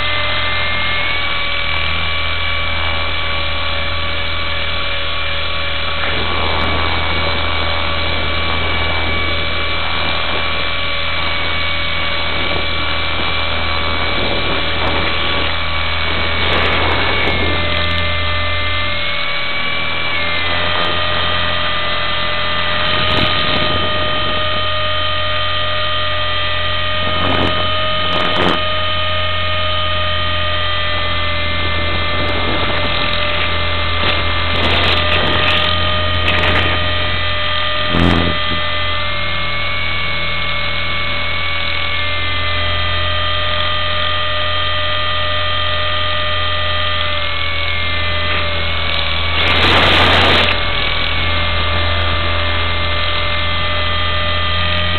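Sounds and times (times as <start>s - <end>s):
low buzzing rumble: 0.0s - 54.9s
model helicopter engine and rotor whine: 0.0s - 54.9s.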